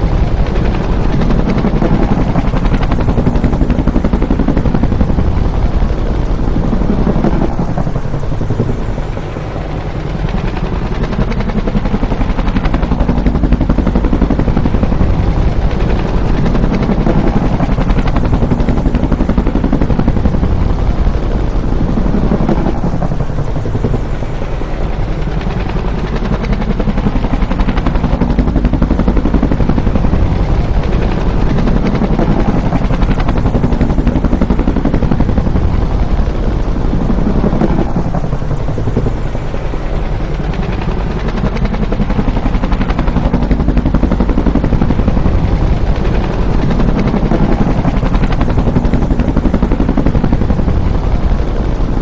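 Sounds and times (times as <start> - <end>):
helicopter rotor and turbine: 0.0 - 52.0.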